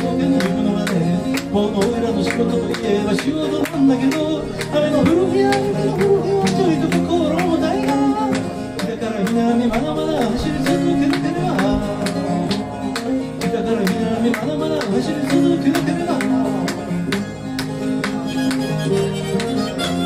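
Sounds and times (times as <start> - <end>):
man singing: 0.0 - 17.7
acoustic guitar strumming: 0.0 - 20.0.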